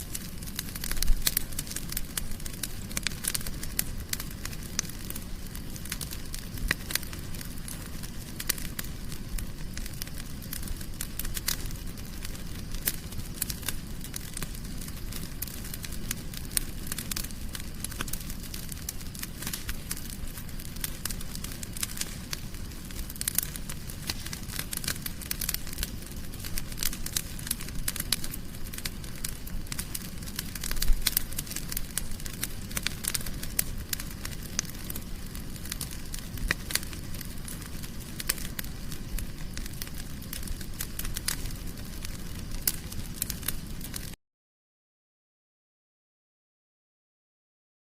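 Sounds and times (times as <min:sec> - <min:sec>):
low fire rumble: 0:00.0 - 0:44.2
wood fire crackling: 0:00.0 - 0:44.2.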